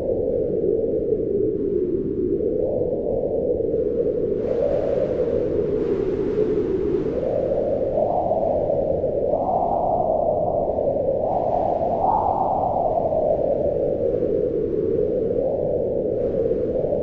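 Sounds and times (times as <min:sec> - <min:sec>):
howling wind in gusts: 0:00.0 - 0:17.0.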